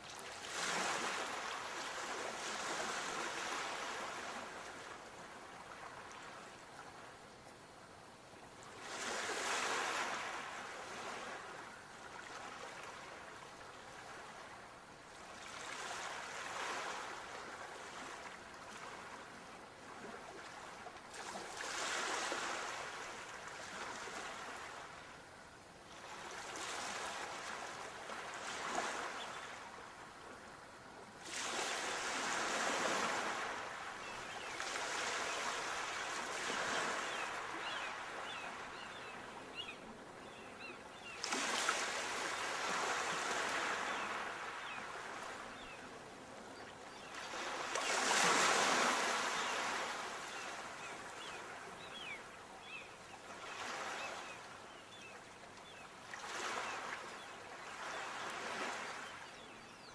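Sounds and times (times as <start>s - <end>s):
sea waves breaking on shore: 0.0s - 6.9s, 8.6s - 25.1s, 25.9s - 30.2s, 31.2s - 59.6s.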